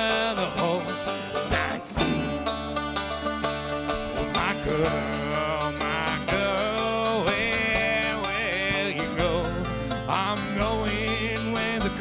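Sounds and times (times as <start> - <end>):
banjo picking: 0.0 - 12.0
bass line: 0.0 - 12.0
guitar picking: 0.0 - 12.0.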